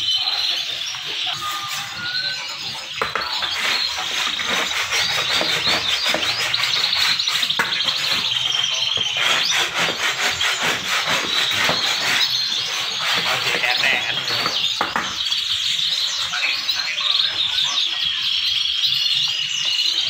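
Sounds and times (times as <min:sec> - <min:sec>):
canaries singing: 0:00.0 - 0:20.0.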